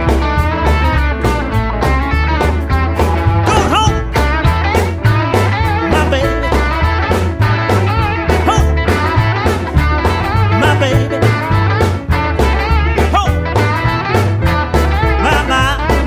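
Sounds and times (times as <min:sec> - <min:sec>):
rockabilly rock song: 0:00.0 - 0:16.0.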